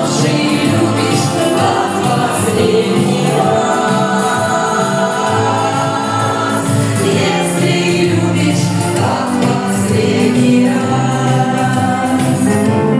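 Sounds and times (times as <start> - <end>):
song with instrumental backing: 0.0 - 12.9.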